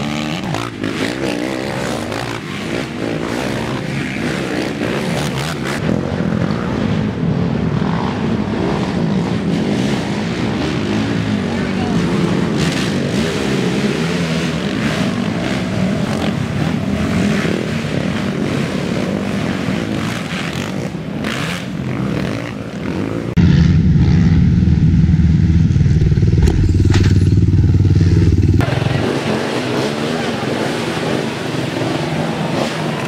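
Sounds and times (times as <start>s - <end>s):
quad engines revving through mud: 0.0s - 24.4s, 26.4s - 33.0s.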